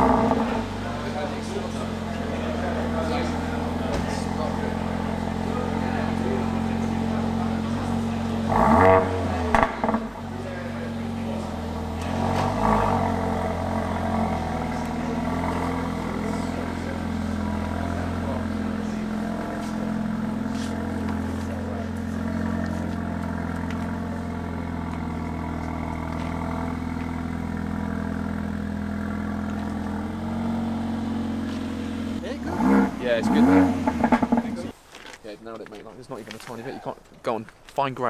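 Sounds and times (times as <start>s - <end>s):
car engine at low revs: 0.0s - 34.8s.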